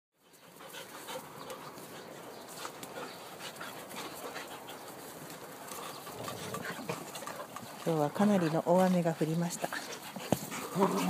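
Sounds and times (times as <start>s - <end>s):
dog panting: 0.2s - 11.0s.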